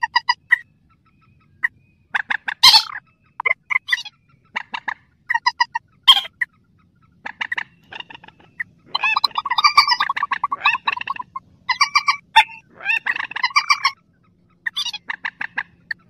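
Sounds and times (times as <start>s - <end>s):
rail bird calling: 0.0s - 16.0s.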